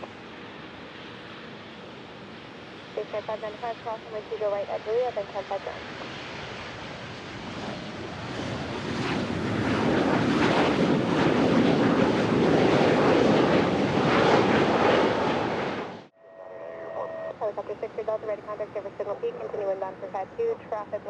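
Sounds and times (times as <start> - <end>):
jet engine roar: 0.0 - 16.1, 17.0 - 21.0.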